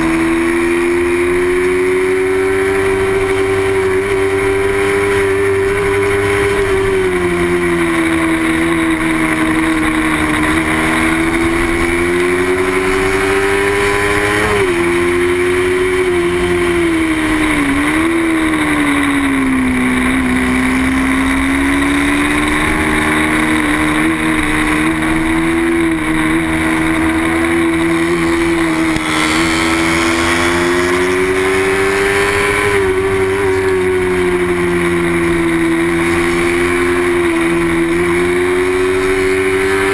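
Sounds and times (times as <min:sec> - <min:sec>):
motorcycle engine revving hard: 0:00.0 - 0:39.9.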